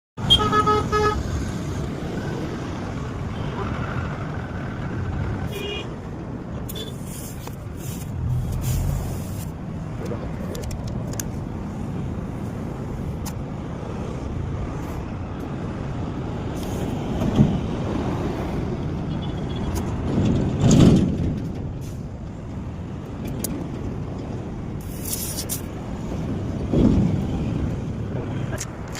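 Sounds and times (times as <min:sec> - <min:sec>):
vehicle and street noise: 0:00.2 - 0:28.9.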